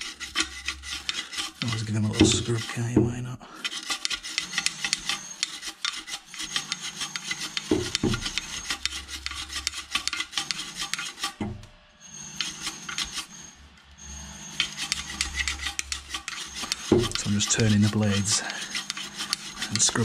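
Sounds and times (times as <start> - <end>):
stiff brush scrubbing fan blades: 0.0 - 20.0.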